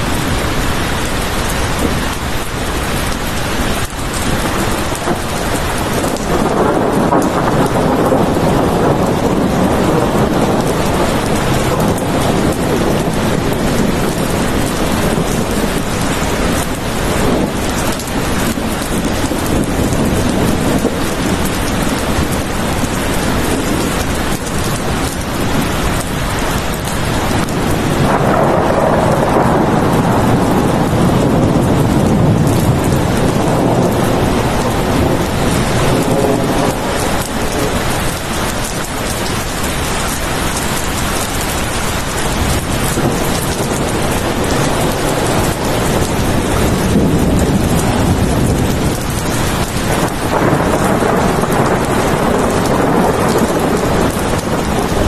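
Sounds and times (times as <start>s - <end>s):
heavy rain: 0.0s - 55.0s
thunder rumble: 0.0s - 55.0s.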